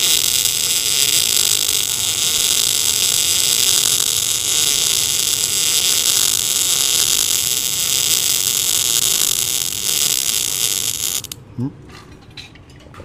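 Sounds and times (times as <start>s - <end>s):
welding arc hissing crackle: 0.0s - 11.4s.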